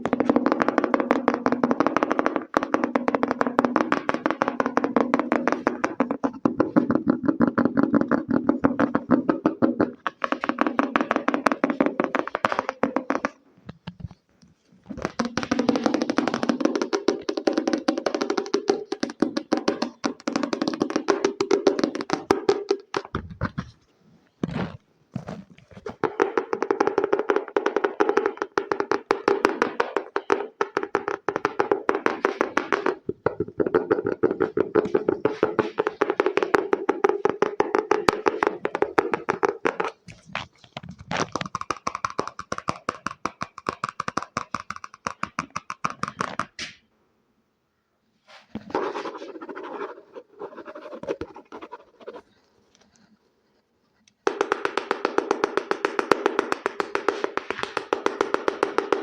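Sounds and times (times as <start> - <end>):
fast fingertip tapping: 0.0 - 14.2, 15.0 - 23.7, 26.0 - 46.6, 48.6 - 52.3, 54.2 - 59.0.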